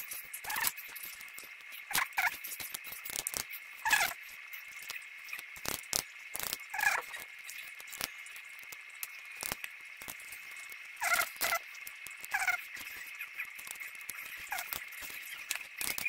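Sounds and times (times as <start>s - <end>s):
faint steady high whine: 0.0s - 16.0s.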